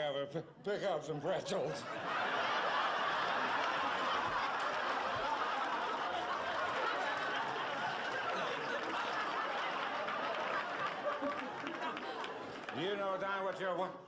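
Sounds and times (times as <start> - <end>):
audience laughing: 1.4 - 13.2.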